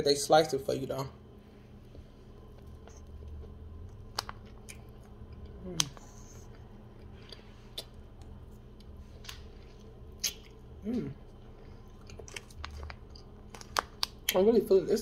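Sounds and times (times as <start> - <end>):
chewing and mouth sounds: 2.4 - 14.5.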